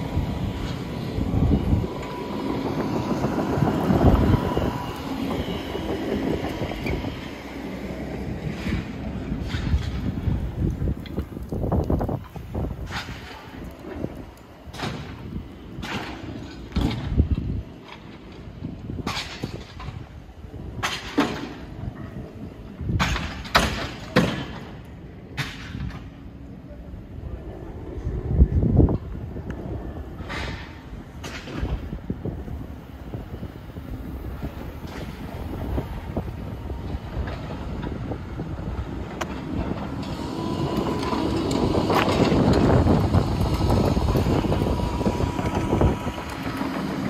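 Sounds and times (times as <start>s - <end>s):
demolition machinery rumbling and clattering: 0.0s - 47.0s.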